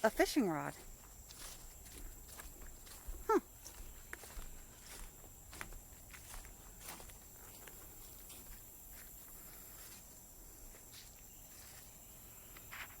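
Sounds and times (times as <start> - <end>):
footsteps on trail: 0.0 - 13.0.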